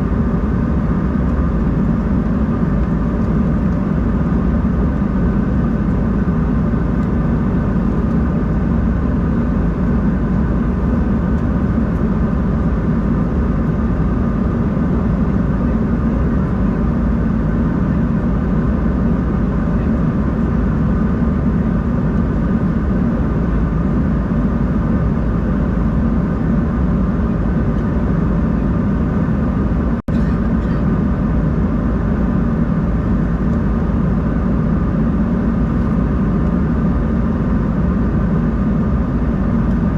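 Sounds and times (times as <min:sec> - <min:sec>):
faint steady whines: 0:00.0 - 0:39.9
jet engine drone: 0:00.0 - 0:39.9.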